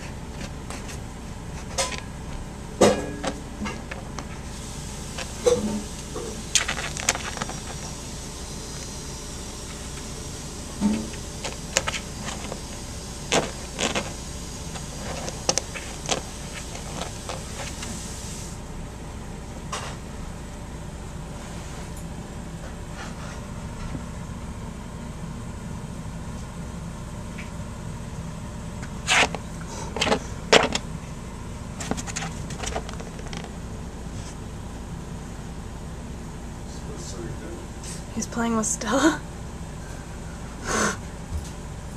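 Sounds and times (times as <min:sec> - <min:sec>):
low background hum: 0:00.0 - 0:41.9.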